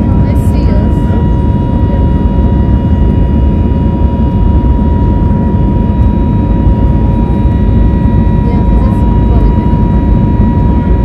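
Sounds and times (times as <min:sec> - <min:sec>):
constant thin hum: 0:00.0 - 0:11.0
engine and airflow rumble: 0:00.0 - 0:11.0.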